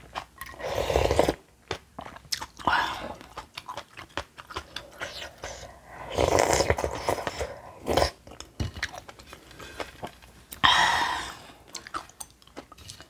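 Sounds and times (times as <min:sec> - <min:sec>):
chewing food: 0:00.0 - 0:10.6, 0:11.6 - 0:13.0.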